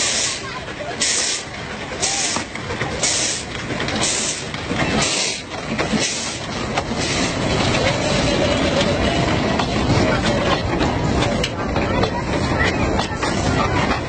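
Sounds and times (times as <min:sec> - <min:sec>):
steam locomotive chuffing: 0:00.0 - 0:14.0
train rumble: 0:00.0 - 0:14.0.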